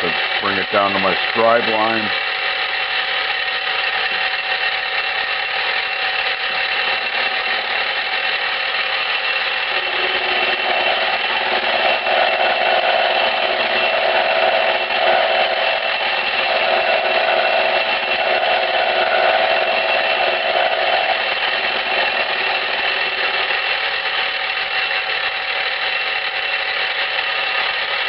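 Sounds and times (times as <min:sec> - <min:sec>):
end mill cutting metal: 0:00.0 - 0:28.0
milling machine motor whine: 0:00.0 - 0:28.0.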